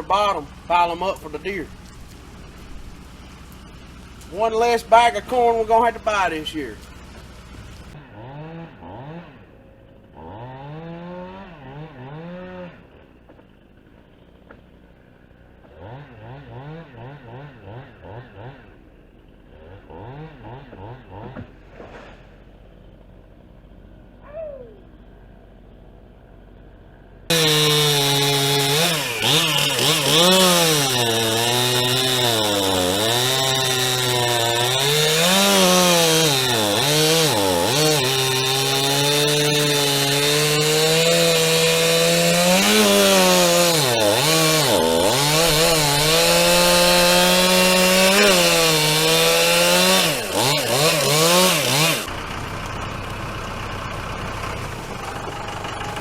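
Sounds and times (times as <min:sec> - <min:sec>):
chainsaw cutting wood: 0:00.0 - 0:23.2, 0:27.3 - 0:56.0.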